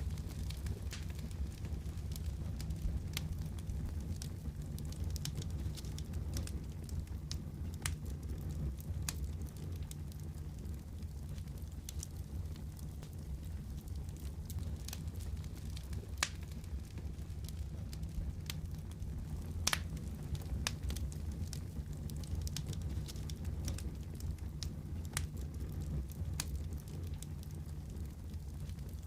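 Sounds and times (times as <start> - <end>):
low fire rumble: 0.0 - 29.0
wood fire crackling: 0.0 - 29.0.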